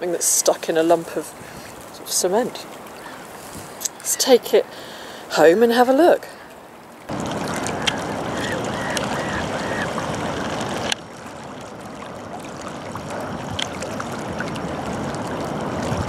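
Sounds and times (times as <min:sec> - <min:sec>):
river water lapping: 0:00.0 - 0:16.0.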